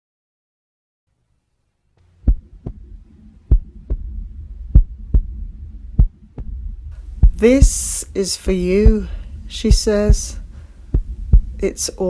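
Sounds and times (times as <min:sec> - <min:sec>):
low steady hum: 0:01.1 - 0:12.0
heartbeat thumps: 0:02.2 - 0:12.0.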